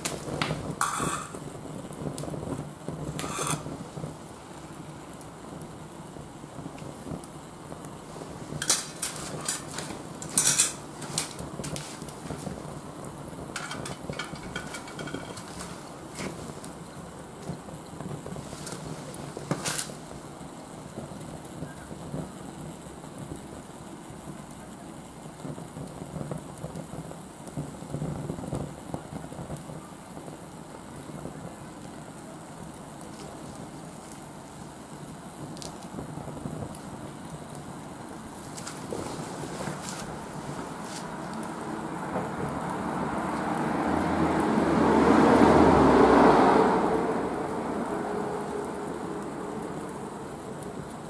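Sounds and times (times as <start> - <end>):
charcoal crackling and popping: 0.0 - 51.0
stove flame rushing draught: 0.0 - 51.0.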